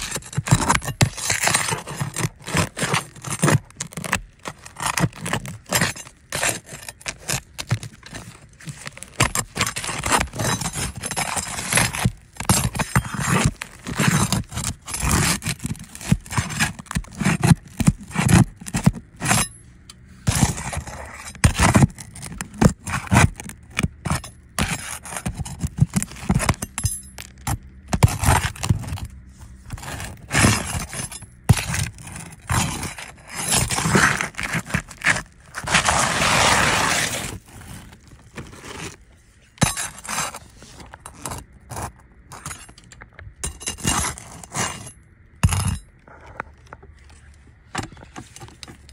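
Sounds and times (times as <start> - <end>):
roof shingles scraping and crackling: 0.0 - 19.5, 20.2 - 42.7.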